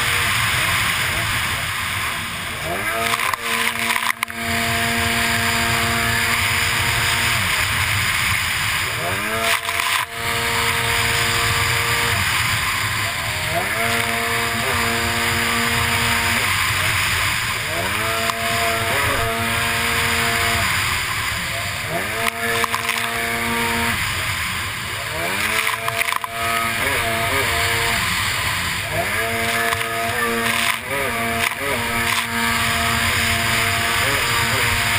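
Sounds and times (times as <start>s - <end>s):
jetski engine revving: 0.0s - 34.9s
spray and rushing water: 0.0s - 34.9s.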